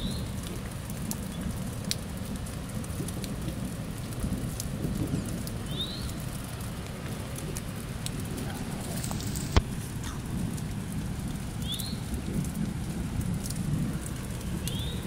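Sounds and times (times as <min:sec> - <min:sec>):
drips tapping: 0:00.0 - 0:15.0
rain falling on wet ground: 0:00.0 - 0:15.0.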